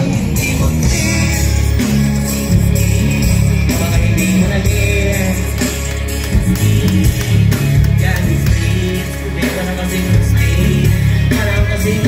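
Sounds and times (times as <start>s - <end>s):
bass-heavy music over pa: 0.0s - 12.0s
vocals on a microphone: 0.0s - 12.0s.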